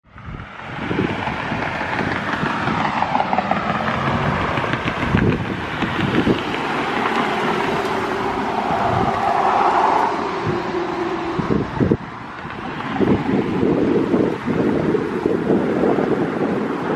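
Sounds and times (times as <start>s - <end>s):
car engine: 0.0s - 16.9s
road noise: 0.0s - 16.9s.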